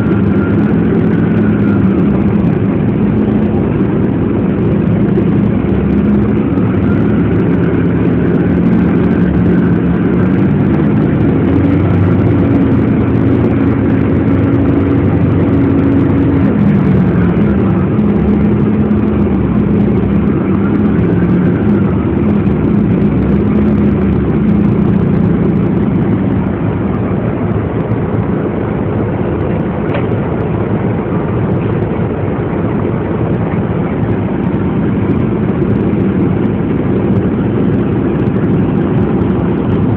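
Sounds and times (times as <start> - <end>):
low motor hum: 0.0 - 39.9
vehicle riding rumble: 0.0 - 39.9.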